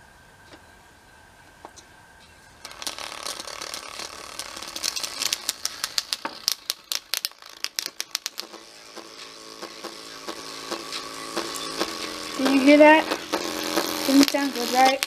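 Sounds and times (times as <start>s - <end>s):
speaker crackling with distortion: 2.6s - 15.0s.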